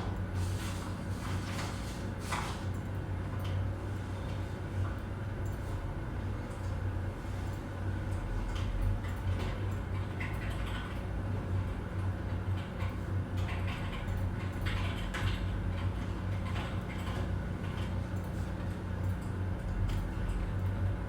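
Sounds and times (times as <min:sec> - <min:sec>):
office hum: 0:00.0 - 0:21.0.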